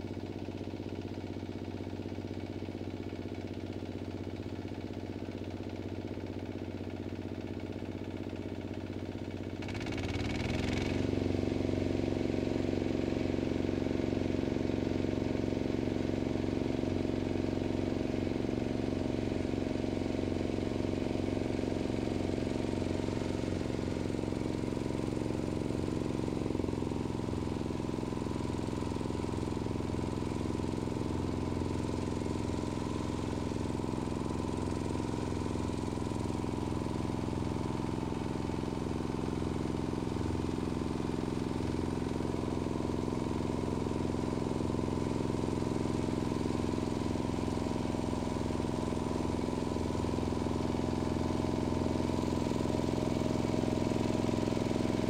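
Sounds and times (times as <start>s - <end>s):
distant tractor engine running: 0.0s - 55.0s.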